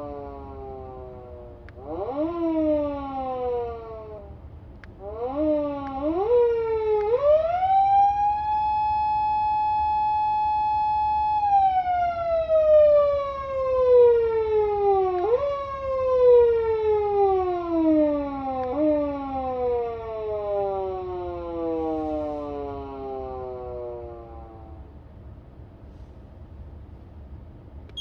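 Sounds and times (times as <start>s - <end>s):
electronic police siren wail: 0.0s - 4.4s, 5.0s - 24.9s.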